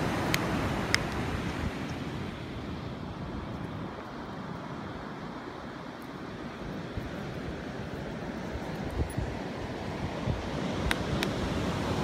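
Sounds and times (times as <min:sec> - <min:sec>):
distant surf: 0:00.0 - 0:12.0
wind: 0:00.0 - 0:12.0.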